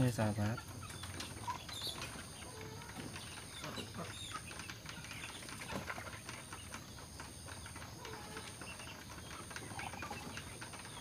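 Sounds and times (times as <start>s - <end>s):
faint chicken calls: 0.0s - 11.0s.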